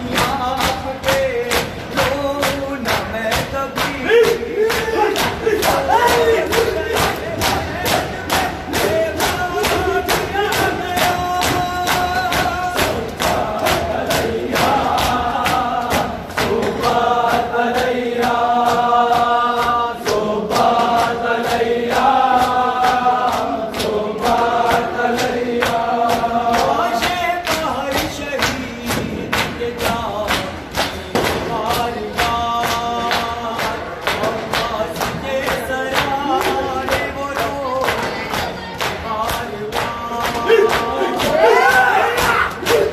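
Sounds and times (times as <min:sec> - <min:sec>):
men chanting in unison: 0:00.0 - 0:42.9.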